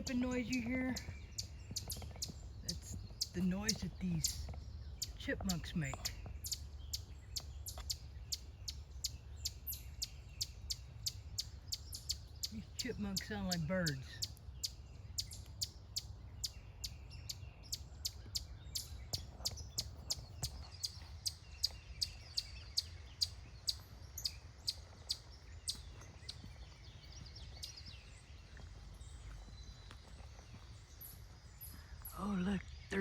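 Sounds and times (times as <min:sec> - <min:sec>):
chipmunk chipping: 0:00.0 - 0:28.3.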